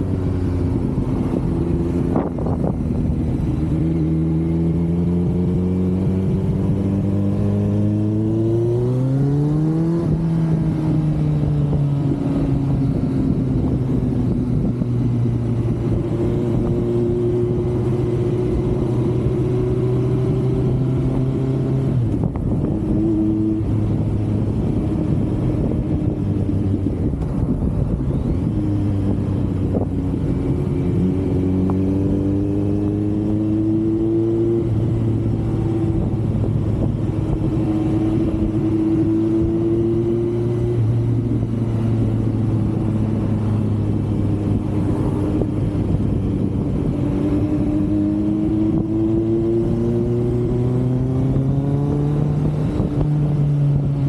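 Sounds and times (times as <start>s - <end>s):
motorcycle engine and exhaust: 0.0s - 54.0s
wind rushing over microphone: 0.0s - 54.0s.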